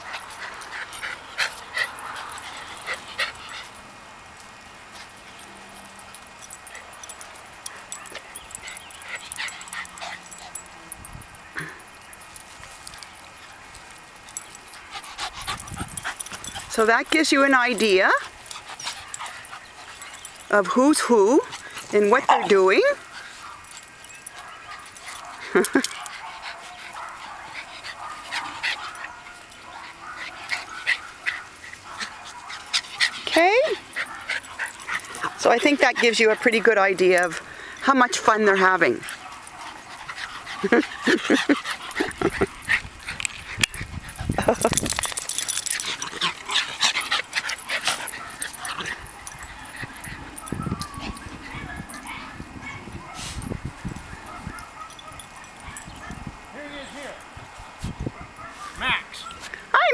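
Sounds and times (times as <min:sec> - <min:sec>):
small dogs yipping and barking: 0:00.0 - 0:59.9.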